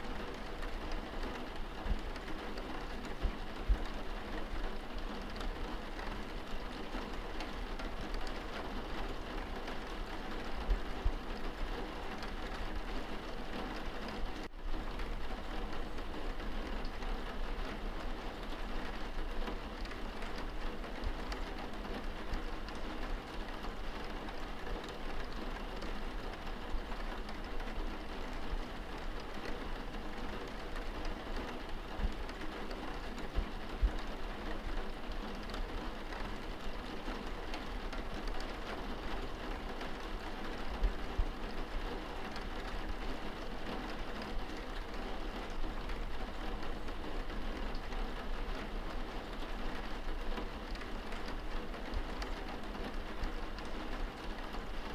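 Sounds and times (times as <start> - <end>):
rain pattering on window glass: 0.0 - 54.9.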